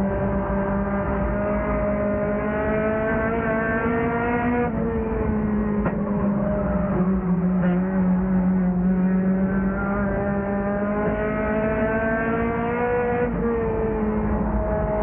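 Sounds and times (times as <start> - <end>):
race car engine from inside: 0.0 - 15.0.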